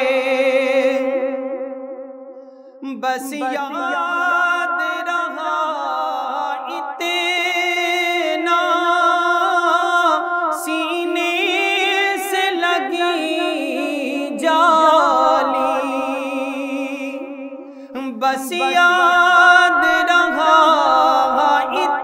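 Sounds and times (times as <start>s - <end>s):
man singing melismatic notes: 2.8s - 22.0s.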